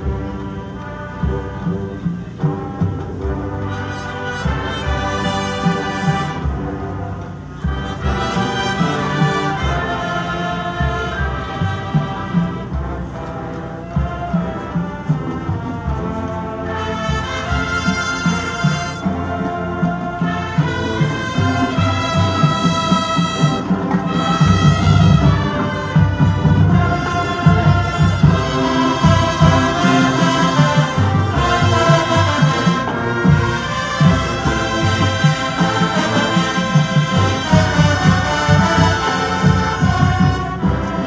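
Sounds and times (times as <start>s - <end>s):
brass chords: 0.0s - 41.0s
drums: 0.0s - 41.0s
marching band playing: 0.0s - 41.0s.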